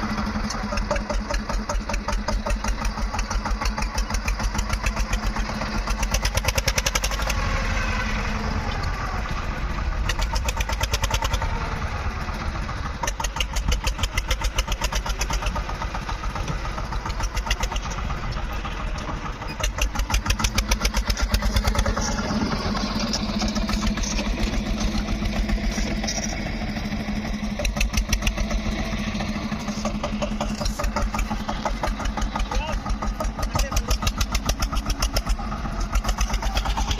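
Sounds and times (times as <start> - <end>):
tractor diesel engine knocking: 0.0 - 36.9.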